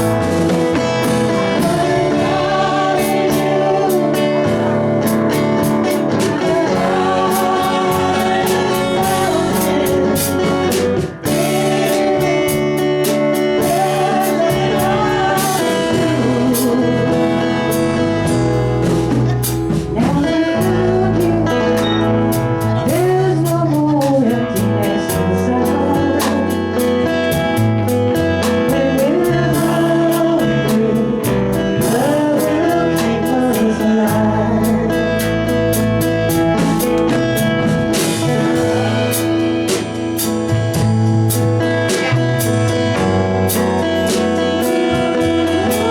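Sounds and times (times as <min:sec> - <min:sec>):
person singing: 0:00.0 - 0:27.7, 0:28.3 - 0:40.3, 0:44.0 - 0:45.9
live band playing: 0:00.0 - 0:45.9.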